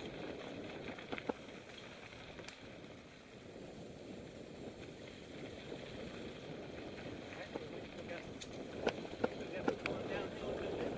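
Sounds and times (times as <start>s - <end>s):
bike rattling: 0.0s - 10.9s
bike tyres on dirt trail: 0.0s - 10.9s.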